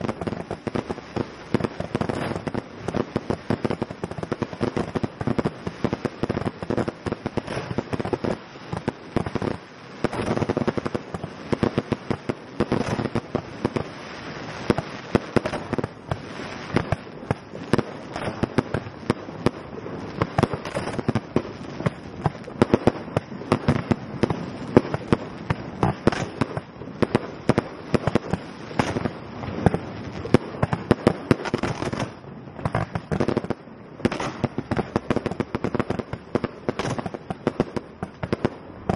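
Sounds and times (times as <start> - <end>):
fireworks bangs: 0.0 - 38.9.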